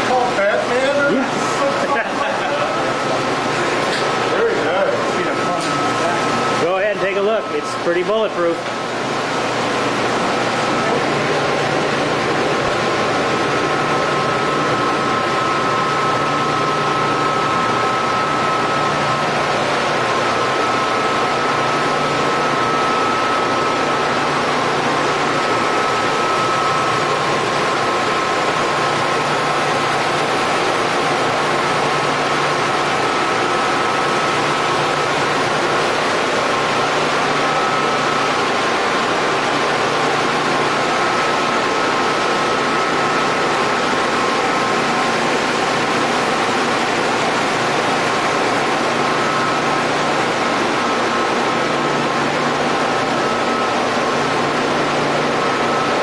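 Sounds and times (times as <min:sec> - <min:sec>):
high whine: 0:00.0 - 0:56.0.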